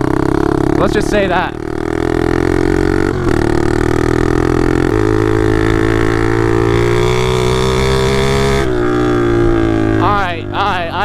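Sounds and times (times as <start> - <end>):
loud pit bike engine drone: 0.0 - 11.0.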